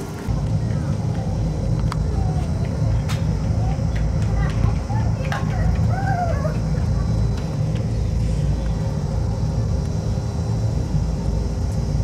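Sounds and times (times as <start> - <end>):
low rumble of indoor hall: 0.0 - 12.0.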